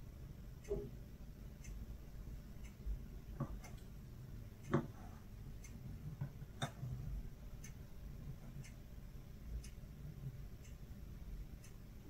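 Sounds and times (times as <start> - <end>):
clock ticking: 0.0 - 12.0.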